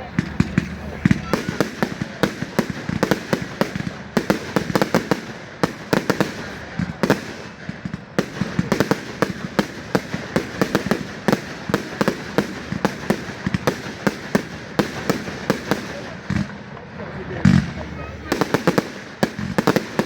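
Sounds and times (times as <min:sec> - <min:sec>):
constant background noise: 0:00.0 - 0:20.0
fireworks bangs and cracks: 0:00.0 - 0:20.0.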